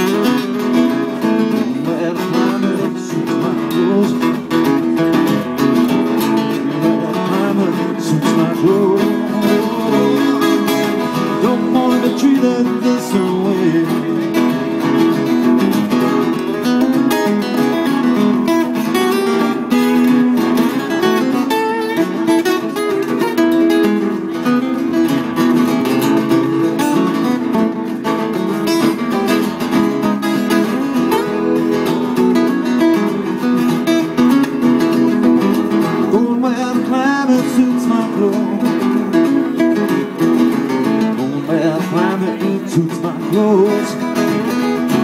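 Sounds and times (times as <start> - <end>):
acoustic guitar playing: 0.0 - 45.0.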